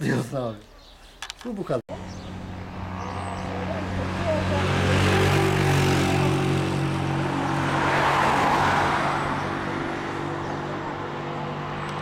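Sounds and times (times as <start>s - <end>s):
car passing: 1.9s - 12.0s.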